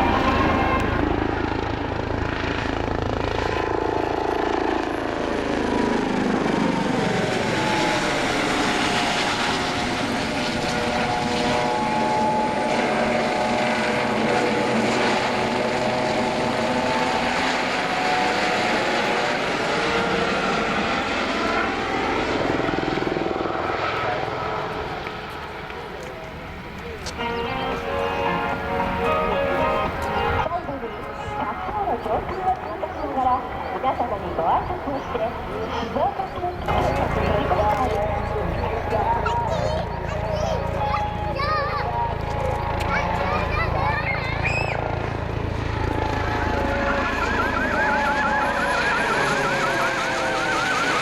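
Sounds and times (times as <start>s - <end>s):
helicopter flying low: 0.0s - 51.0s.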